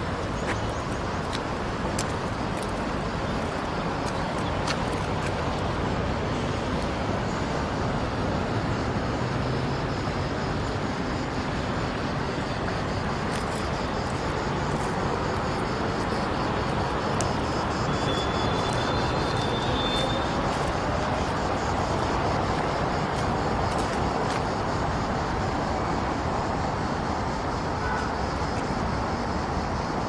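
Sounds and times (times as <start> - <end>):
busy road traffic: 0.0 - 30.0.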